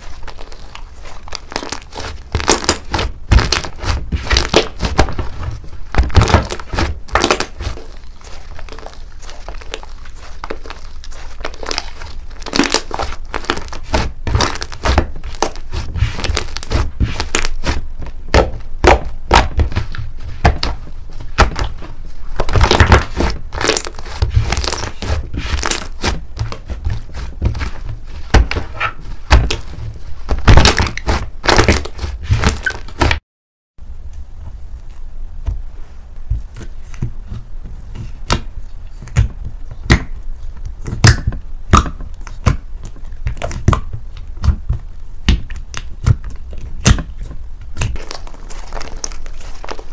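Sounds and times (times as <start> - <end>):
slime crackling and popping: 0.0 - 33.2, 38.2 - 49.9.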